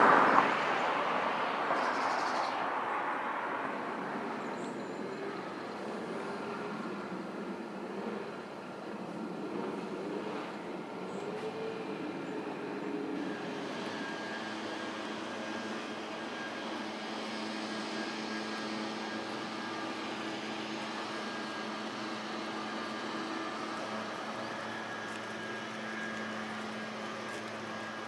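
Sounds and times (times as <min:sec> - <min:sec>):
distant engine drone: 0:00.0 - 0:28.0.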